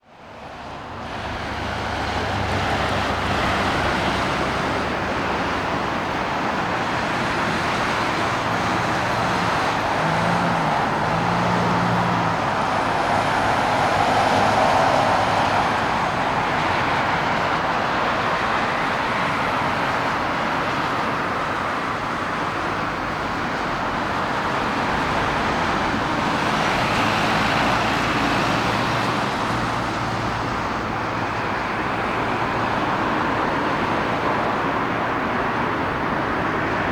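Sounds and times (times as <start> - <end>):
distant engines roaring: 0.1 - 36.9.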